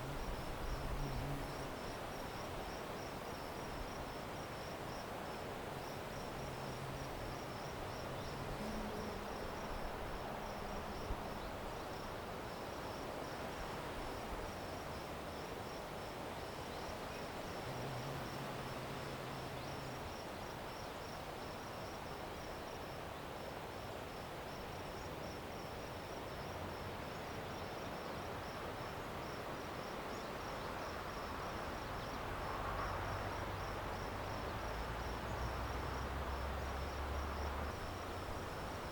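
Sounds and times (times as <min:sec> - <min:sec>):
background hiss: 0:00.0 - 0:38.9
cricket chirping: 0:00.0 - 0:38.9.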